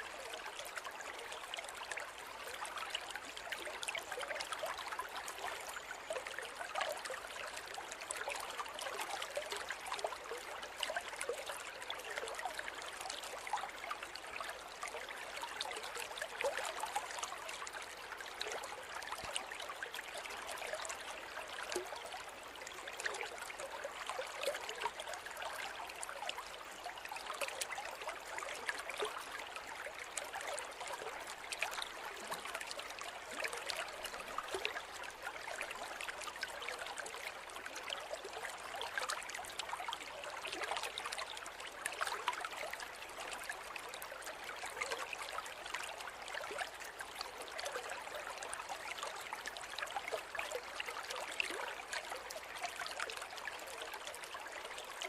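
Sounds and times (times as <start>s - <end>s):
small water splashes and trickles: 0.0s - 55.0s.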